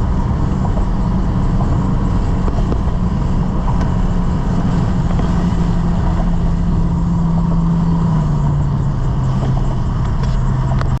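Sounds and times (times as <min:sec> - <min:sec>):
loud car exhaust note: 0:00.0 - 0:11.0.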